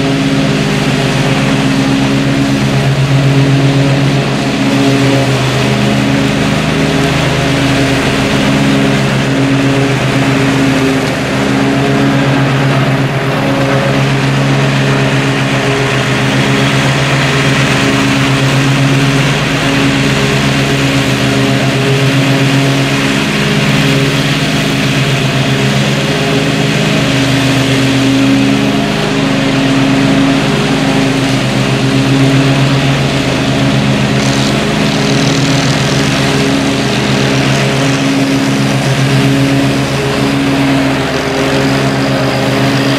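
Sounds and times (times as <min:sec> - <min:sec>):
mower blades cutting weeds: 0:00.0 - 0:42.9
riding mower engine running: 0:00.0 - 0:42.9.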